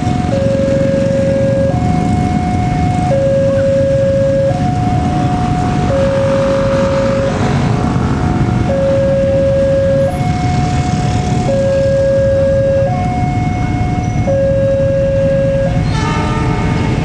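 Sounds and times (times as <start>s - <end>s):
diesel locomotive rumble: 0.0s - 17.0s
two-tone crossing alarm: 0.0s - 17.0s.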